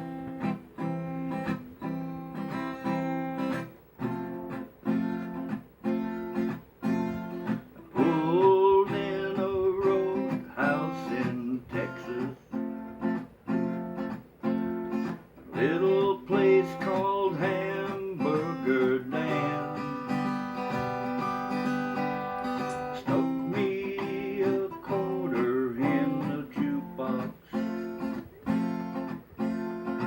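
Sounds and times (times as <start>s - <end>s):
acoustic guitar strumming: 0.0s - 30.0s
bending guitar melody: 0.0s - 30.0s.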